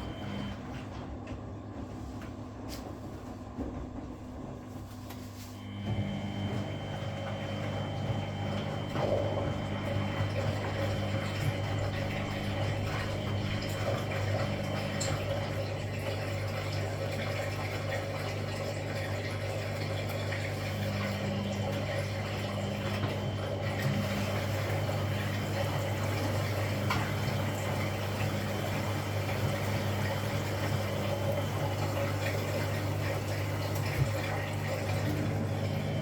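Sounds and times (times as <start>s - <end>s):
washing machine water flowing: 0.0s - 36.0s.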